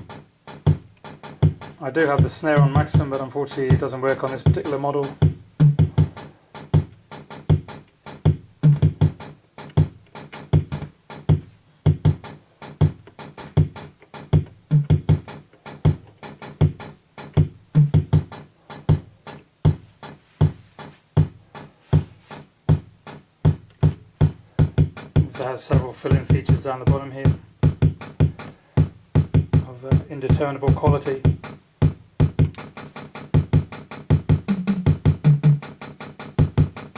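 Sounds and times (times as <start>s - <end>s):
drum machine low thumps: 0.0s - 36.9s
ticking hi-hat: 0.0s - 36.9s.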